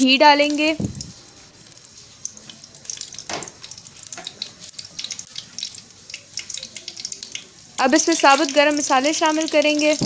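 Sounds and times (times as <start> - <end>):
butter sizzling and crackling: 0.0 - 10.0.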